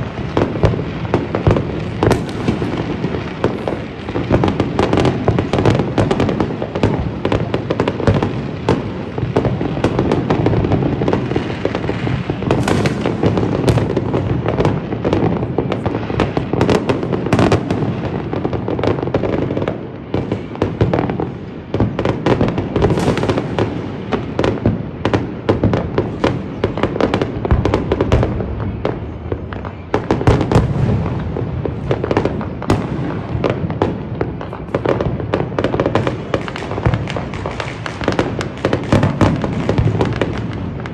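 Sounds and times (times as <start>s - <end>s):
fireworks and firecrackers crackling: 0.0s - 40.9s.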